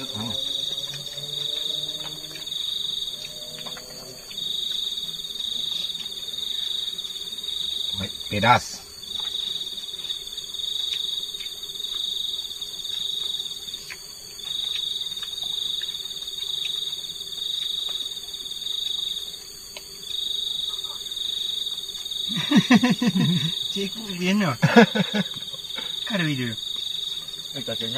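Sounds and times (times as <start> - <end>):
faint eating clicks: 0.0 - 27.9
insects trilling: 0.0 - 27.9.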